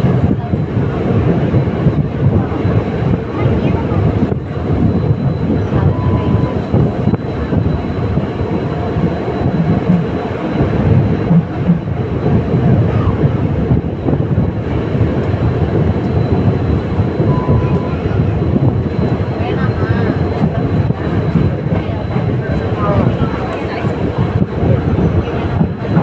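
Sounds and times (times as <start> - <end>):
diesel train rumbling: 0.0 - 26.0.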